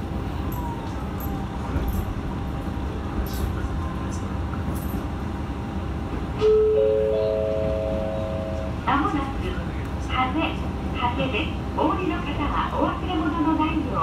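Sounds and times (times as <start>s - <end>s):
railcar running rumble: 0.0s - 14.0s.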